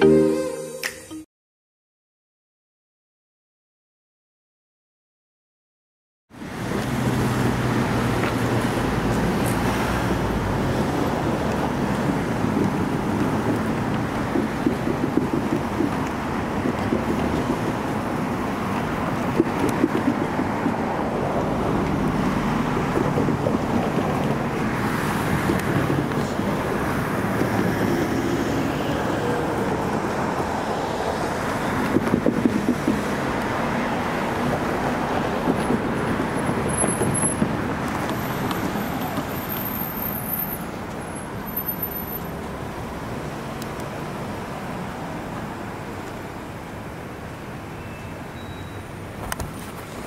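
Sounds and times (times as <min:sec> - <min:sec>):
road traffic passing: 0:06.3 - 0:50.0.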